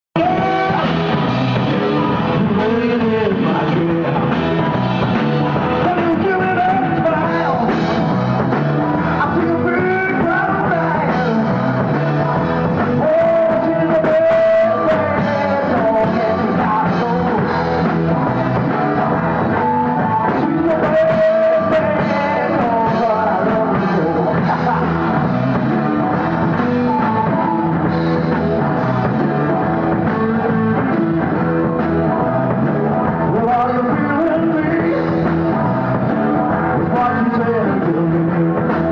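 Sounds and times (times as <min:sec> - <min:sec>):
person singing: 0:00.1 - 0:38.9
rock band playing live: 0:00.2 - 0:38.9.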